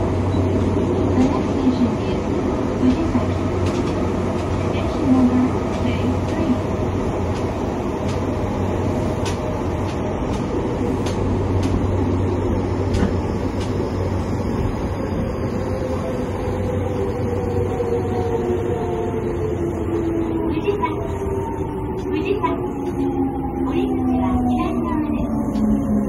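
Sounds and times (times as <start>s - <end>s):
train running noise: 0.0s - 26.0s.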